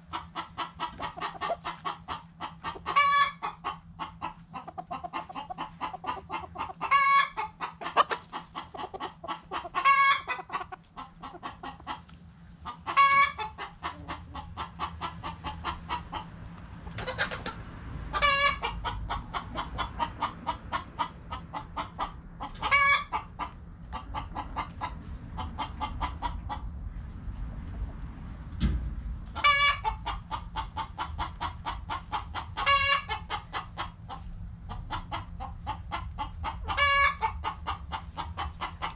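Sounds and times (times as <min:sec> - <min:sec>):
drawn-out hen calls: 0:00.0 - 0:28.1, 0:29.2 - 0:38.9
chickens clucking: 0:00.0 - 0:38.9.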